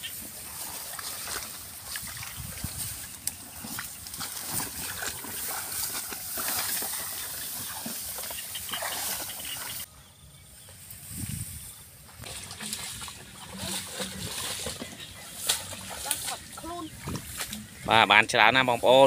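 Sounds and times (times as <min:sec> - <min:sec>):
grass rustling and swishing: 0:00.0 - 0:09.9, 0:10.6 - 0:17.9.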